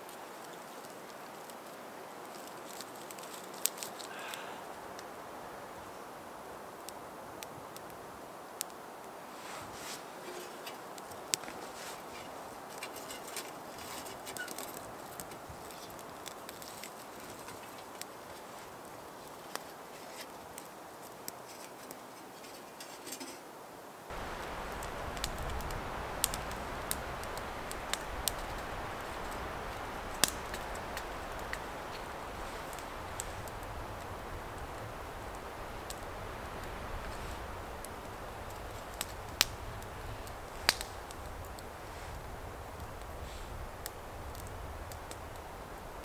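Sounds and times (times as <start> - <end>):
sharp snaps of burning wood: 0.0 - 5.2, 6.8 - 9.2, 10.0 - 21.9, 24.1 - 46.0
wood fire crackling: 0.0 - 46.0.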